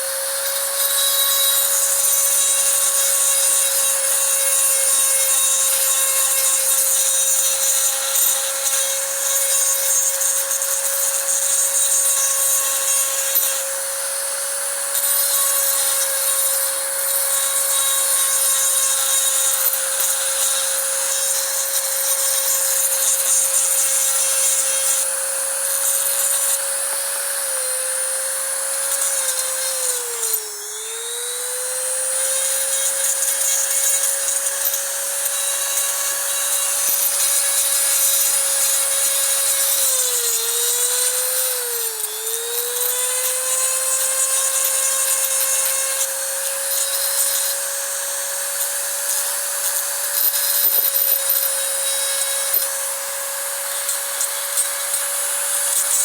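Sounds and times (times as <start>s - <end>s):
small electric power tool running: 0.0s - 56.0s.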